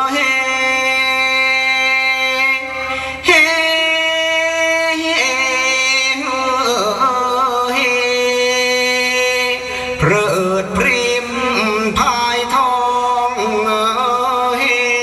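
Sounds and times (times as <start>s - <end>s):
person singing long notes: 0.0s - 15.0s.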